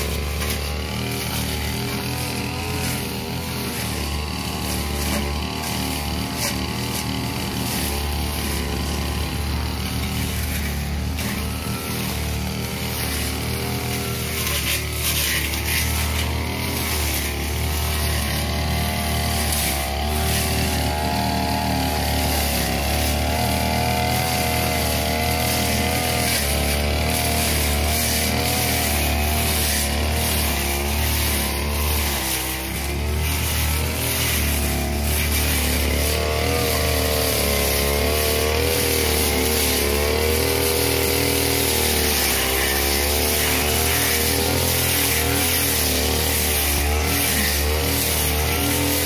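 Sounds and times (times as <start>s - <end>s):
blade cutting dry grass: 0.0s - 49.0s
brush cutter engine running: 0.0s - 49.0s.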